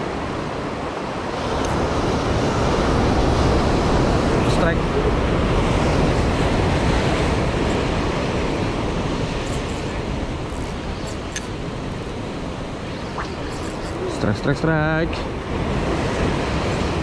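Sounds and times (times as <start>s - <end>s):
sea surf breaking: 0.0s - 17.0s.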